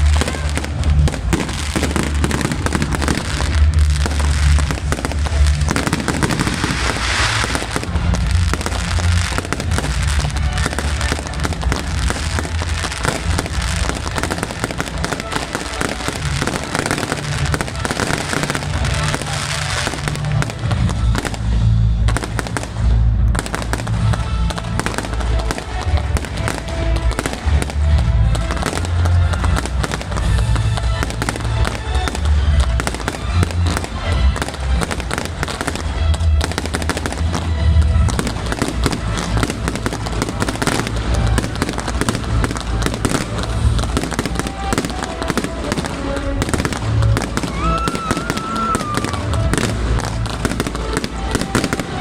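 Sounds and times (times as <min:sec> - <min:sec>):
fireworks bangs and booms: 0:00.0 - 0:52.0
music playing: 0:00.0 - 0:52.0.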